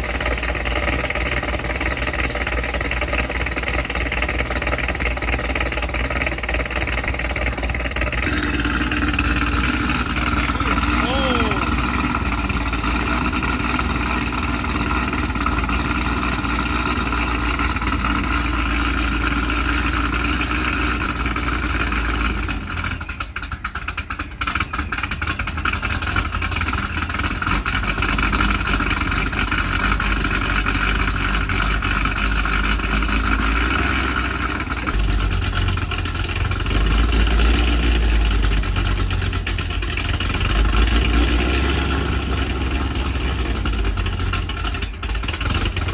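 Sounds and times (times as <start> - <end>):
car engine idling low rumble: 0.0 - 45.9.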